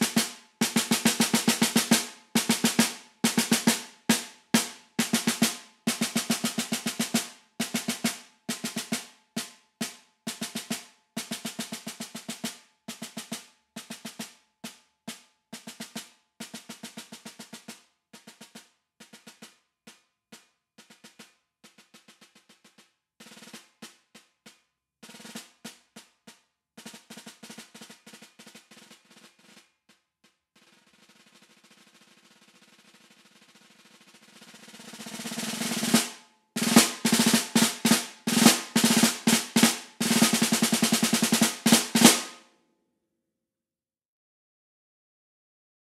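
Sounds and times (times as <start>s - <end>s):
snare drum strokes and rolls: 0.0s - 19.6s, 20.8s - 29.8s, 30.6s - 42.4s.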